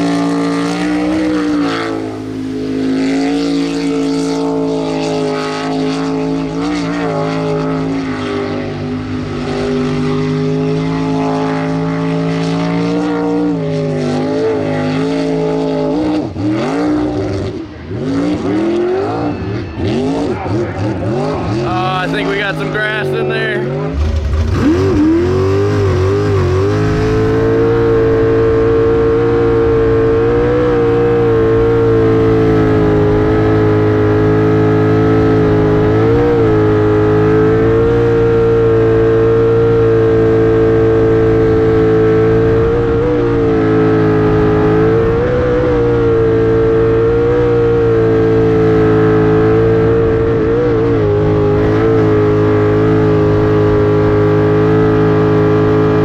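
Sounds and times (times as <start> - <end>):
boat engine high-revving: 0.0 - 56.0.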